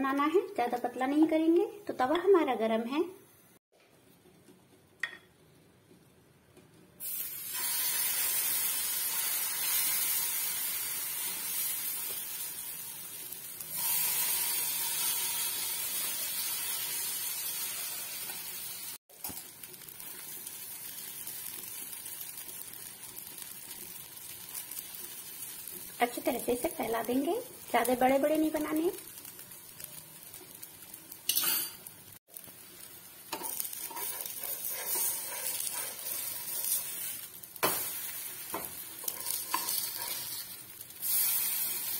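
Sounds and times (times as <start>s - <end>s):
batter sizzling on a hot pan: 7.0s - 41.9s.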